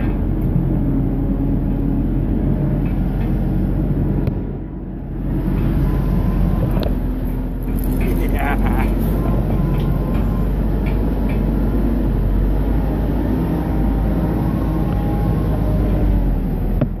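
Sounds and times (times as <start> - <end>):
work machine engine running: 0.0 - 17.0.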